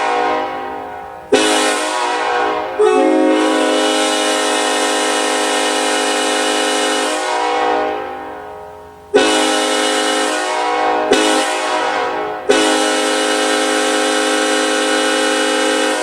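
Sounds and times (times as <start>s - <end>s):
locomotive horn blasts: 0.0s - 16.0s.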